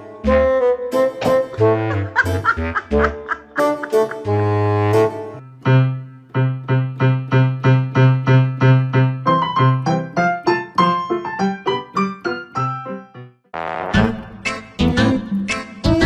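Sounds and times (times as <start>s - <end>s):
bouncy keyboard music: 0.0s - 16.0s.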